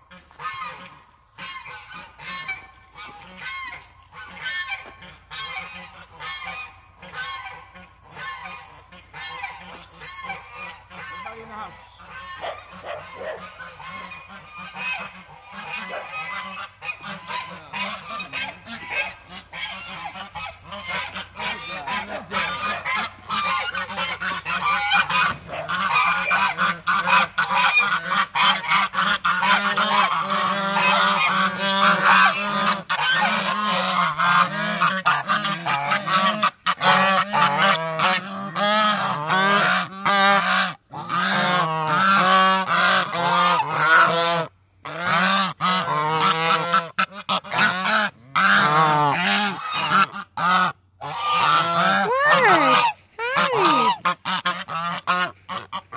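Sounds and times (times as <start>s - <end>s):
geese honking: 0.0s - 55.9s.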